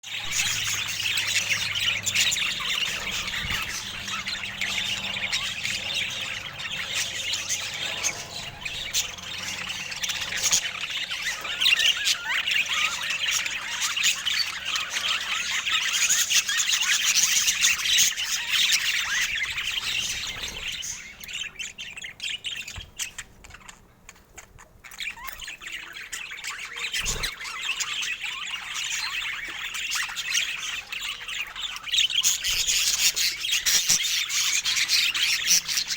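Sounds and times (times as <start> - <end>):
budgerigars chattering: 0.1 - 35.9.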